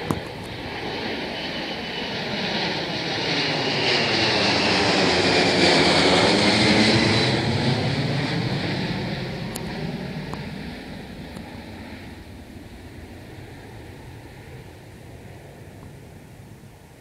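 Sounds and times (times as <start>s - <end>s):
high fan whine: 0.0s - 17.0s
jet passing overhead: 0.0s - 17.0s.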